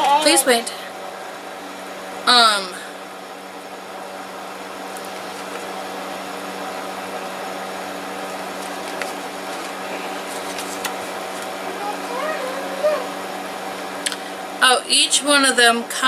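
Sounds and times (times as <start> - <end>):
machine hum with hiss: 0.0 - 14.6.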